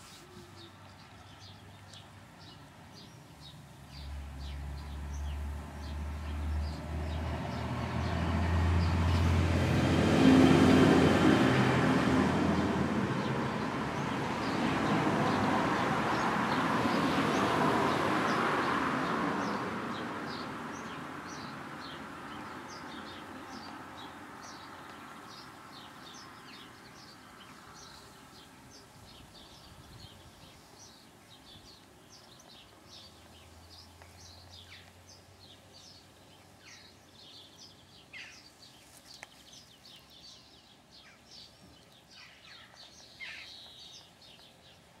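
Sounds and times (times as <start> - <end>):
small birds twittering: 0.0 - 8.1, 14.0 - 45.0.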